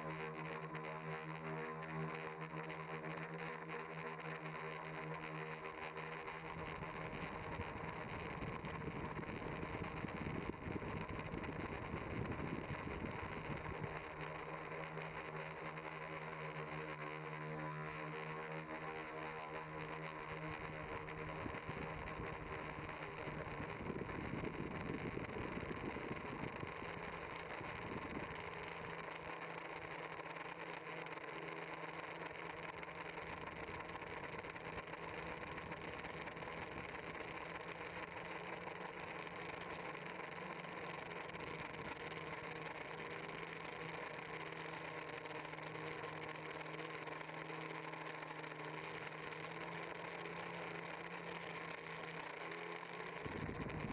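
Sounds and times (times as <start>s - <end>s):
drone propellers humming: 0.0s - 53.9s.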